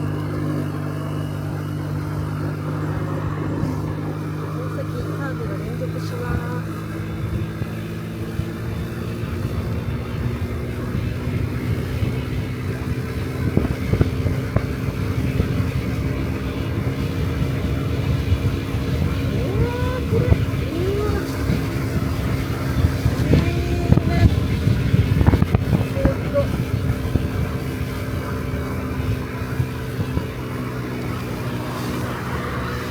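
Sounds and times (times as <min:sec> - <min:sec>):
scooter engine running: 0:00.0 - 0:32.9
wind and road noise: 0:00.0 - 0:32.9.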